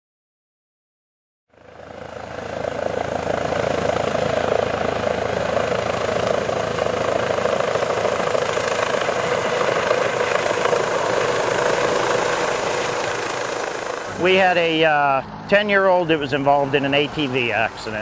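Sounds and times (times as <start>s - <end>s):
helicopter rotor and turbine: 1.5s - 18.0s.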